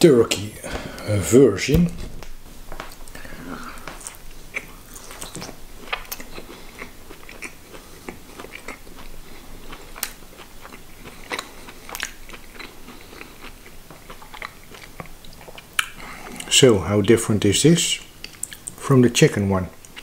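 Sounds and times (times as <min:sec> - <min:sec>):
chewing with small crunches: 0:02.0 - 0:17.2, 0:18.2 - 0:18.8, 0:19.7 - 0:20.0.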